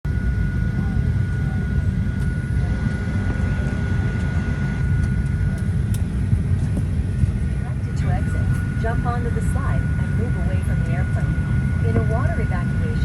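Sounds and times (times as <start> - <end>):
thin steady whine: 0.1 - 13.0
air-conditioning airflow rumble: 0.2 - 13.0.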